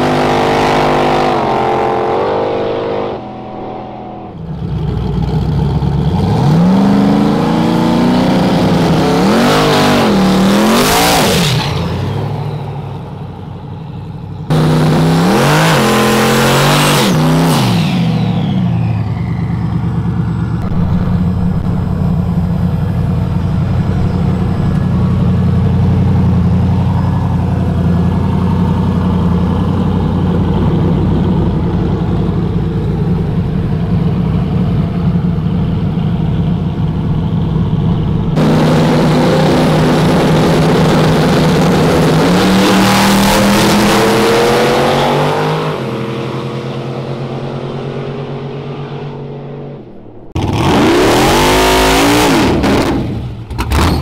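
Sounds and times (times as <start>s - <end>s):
low engine drone: 0.0s - 53.9s
drag cars accelerating: 0.0s - 54.0s.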